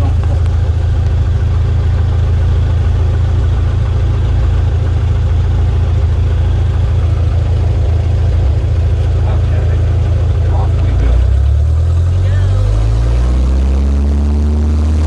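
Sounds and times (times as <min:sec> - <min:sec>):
propeller airplane engine droning: 0:00.0 - 0:15.0.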